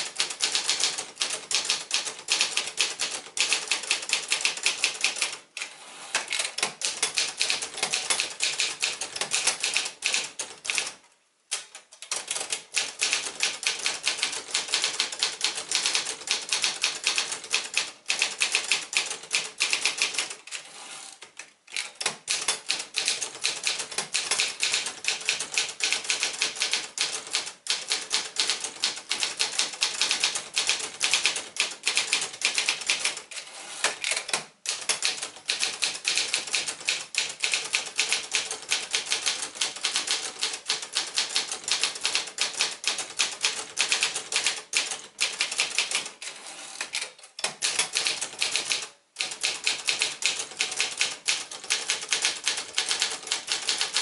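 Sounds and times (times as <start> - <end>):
manual typewriter keystrokes: 0.0 - 20.6, 21.2 - 54.0.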